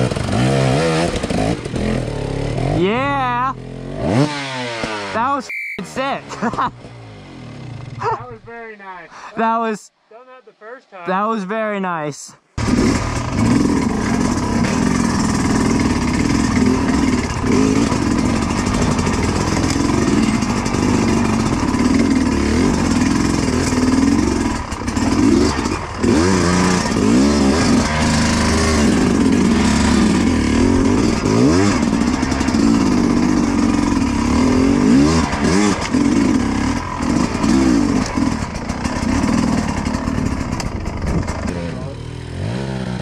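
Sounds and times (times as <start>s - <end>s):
dirt bike engine revving: 0.0s - 8.8s, 12.6s - 43.0s.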